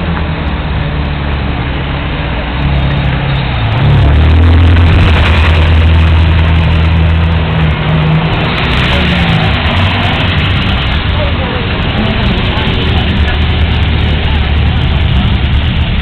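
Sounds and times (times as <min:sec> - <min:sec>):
sports car engine revving: 0:02.3 - 0:16.0.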